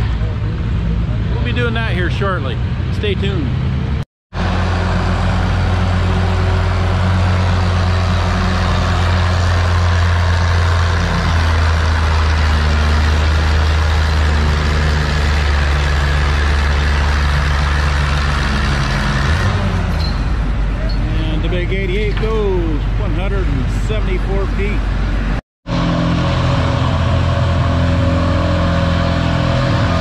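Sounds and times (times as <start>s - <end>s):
tractor engine under load: 4.4s - 30.0s.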